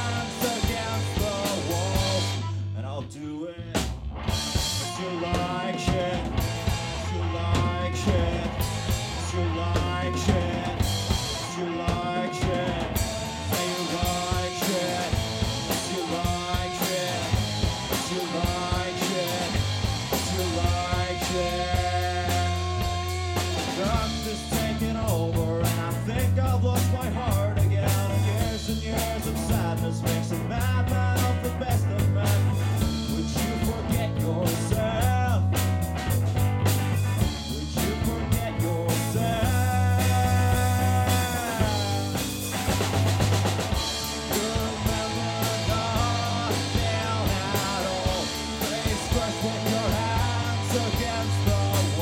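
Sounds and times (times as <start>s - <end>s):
drum kit and cymbals: 0.0s - 2.5s, 3.8s - 52.0s
electric guitar with bent notes: 0.0s - 2.7s, 3.7s - 52.0s
bass guitar: 0.0s - 52.0s.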